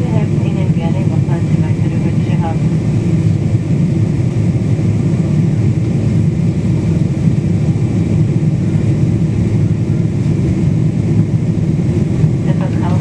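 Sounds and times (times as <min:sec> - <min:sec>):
airplane cabin engine noise: 0:00.0 - 0:13.0.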